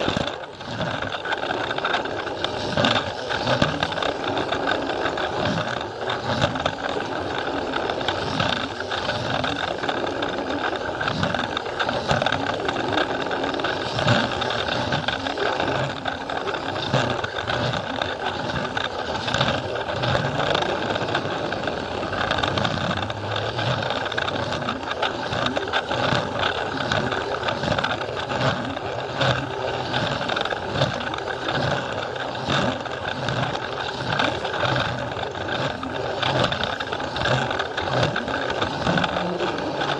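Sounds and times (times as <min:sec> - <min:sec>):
plastic wheels rattling on track: 0:00.0 - 0:39.9
toy train motor whine: 0:00.0 - 0:39.9.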